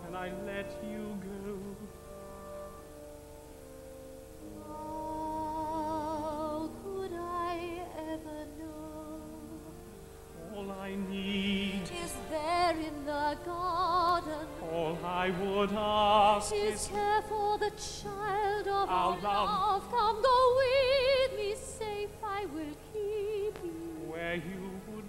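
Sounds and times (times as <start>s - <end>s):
person singing with wide vibrato: 0.0s - 2.2s, 4.5s - 25.0s
soft sustained accompaniment: 0.0s - 25.0s.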